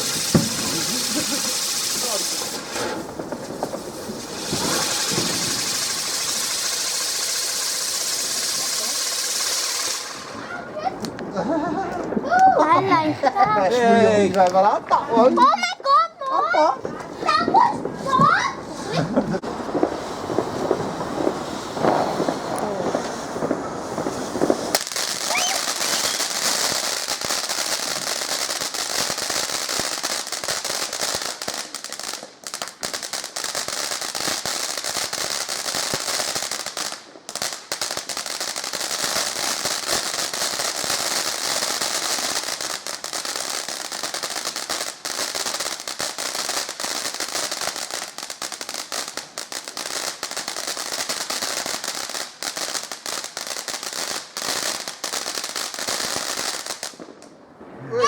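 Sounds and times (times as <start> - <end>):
firework crackling and popping: 0.0 - 58.0.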